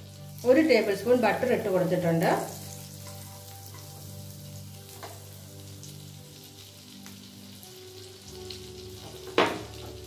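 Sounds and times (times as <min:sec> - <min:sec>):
butter sizzling in a pan: 0:00.0 - 0:10.0.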